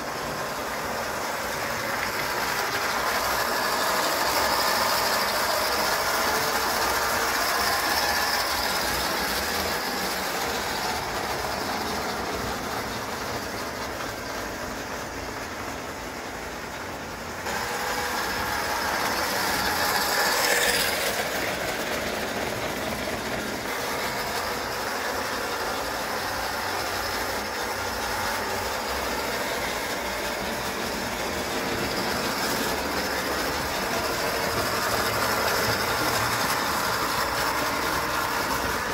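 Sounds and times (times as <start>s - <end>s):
toy train electric motor whirring: 0.0s - 38.9s
wheels clattering on rails: 0.0s - 38.9s.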